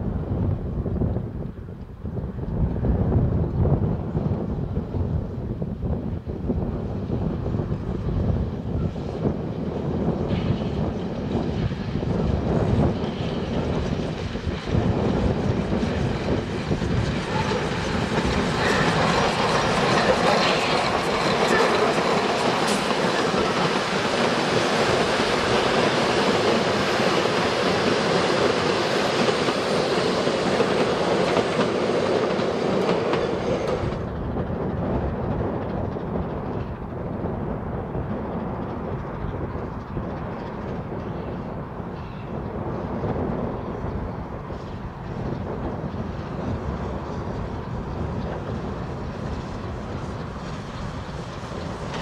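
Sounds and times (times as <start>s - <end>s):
steam train passing: 0.0s - 52.0s
carriages rolling on rails: 3.3s - 52.0s.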